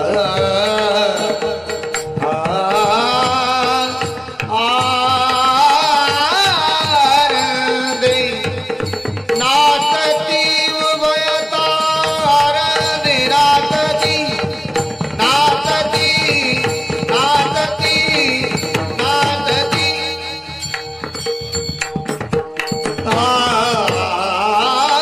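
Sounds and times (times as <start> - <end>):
devotional singing: 0.0 - 20.8, 23.0 - 25.0
drum and percussion rhythm: 0.0 - 25.0.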